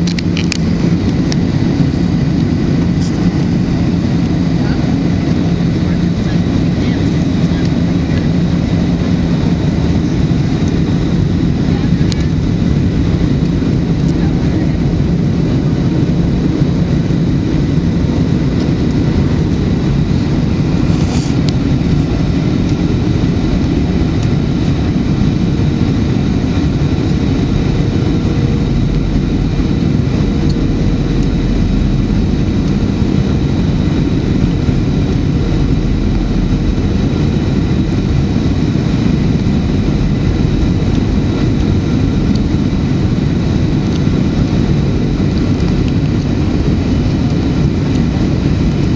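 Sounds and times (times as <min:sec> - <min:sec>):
airflow and jet engine roar: 0:00.0 - 0:48.9
deep low rumble: 0:00.0 - 0:48.9.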